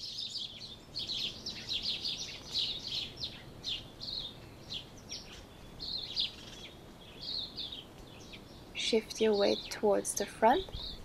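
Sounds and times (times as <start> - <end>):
birds chirping: 0.0 - 11.0
faint background hiss: 0.0 - 11.0.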